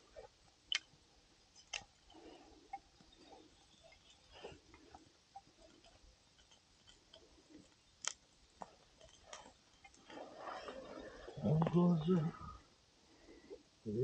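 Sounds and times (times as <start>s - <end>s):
campfire crackling: 0.0s - 13.9s.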